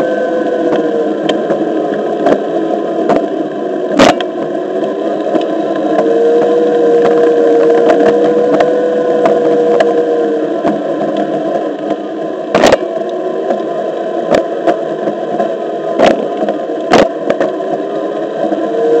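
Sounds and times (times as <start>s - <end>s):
electric motor whine: 0.0s - 19.0s
electric skateboard rolling on concrete: 0.0s - 19.0s.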